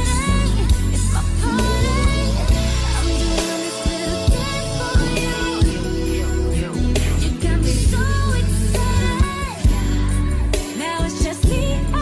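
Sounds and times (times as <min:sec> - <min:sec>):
pop song with sung vocals: 0:00.0 - 0:12.0.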